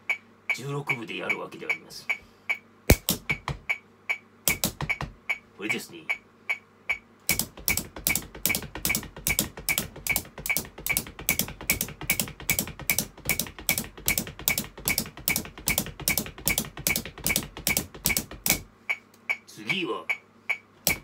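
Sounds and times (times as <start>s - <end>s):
metronome ticking: 0.0s - 21.0s
brushes tapping a practice pad: 2.9s - 21.0s.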